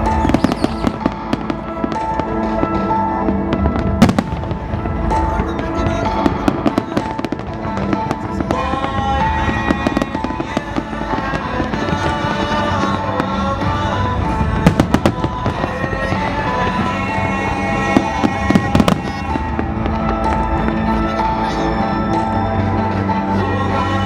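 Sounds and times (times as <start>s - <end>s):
fireworks bangs and crackles: 0.0s - 23.1s
music with long held notes: 0.0s - 24.0s.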